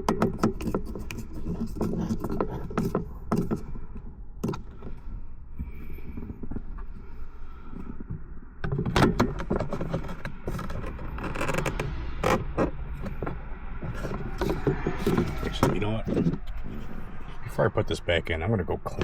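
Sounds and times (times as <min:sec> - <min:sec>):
plastic parts clicking and scraping: 0:00.0 - 0:05.0, 0:05.6 - 0:16.9
steady low hum: 0:00.0 - 0:19.0.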